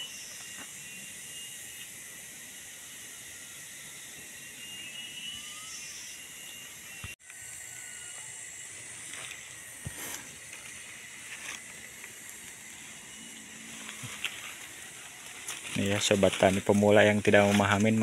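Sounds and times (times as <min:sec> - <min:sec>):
high-pitched background hiss: 0:00.0 - 0:18.0.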